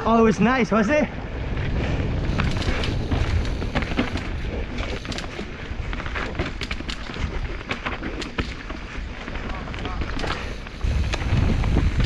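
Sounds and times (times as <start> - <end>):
wind rumble on microphone: 0.0 - 12.0
tyre noise on dirt: 1.2 - 12.0
bike rattling over rocks: 1.4 - 12.0.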